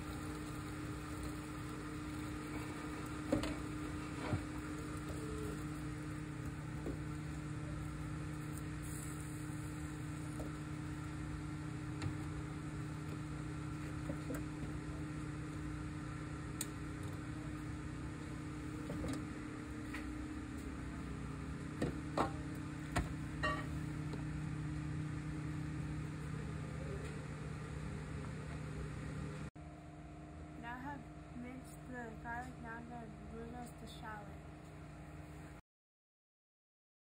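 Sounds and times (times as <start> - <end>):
kitchen equipment humming: 0.0 - 35.6.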